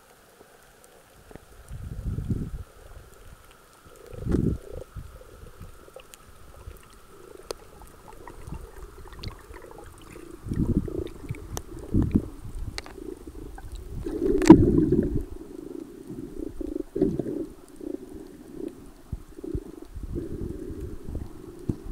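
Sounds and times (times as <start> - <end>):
faint clicks: 0.0 - 21.9
muffled underwater rumbling: 1.4 - 21.9.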